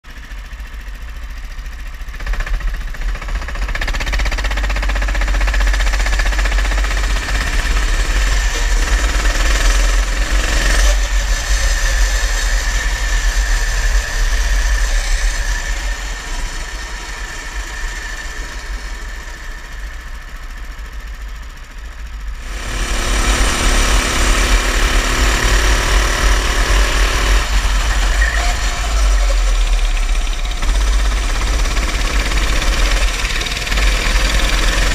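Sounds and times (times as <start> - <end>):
go-kart engine running: 0.0 - 34.9.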